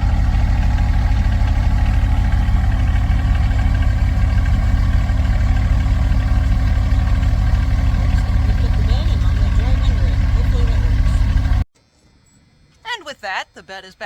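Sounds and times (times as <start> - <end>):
pickup truck engine idling: 0.0 - 11.6.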